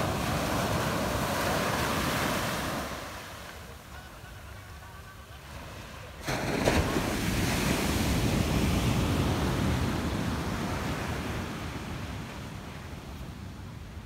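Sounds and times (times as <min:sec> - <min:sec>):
sea surf on beach: 0:00.0 - 0:14.0.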